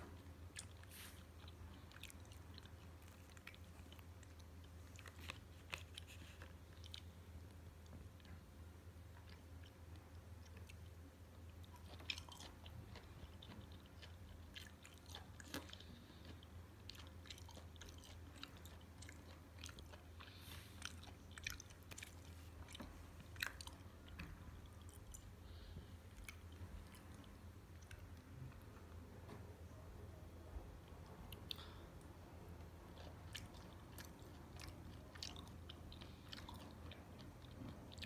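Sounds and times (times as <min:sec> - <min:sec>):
chewing with wet smacks: 0:00.0 - 0:28.9, 0:30.8 - 0:38.0
faint low hum: 0:00.0 - 0:38.0.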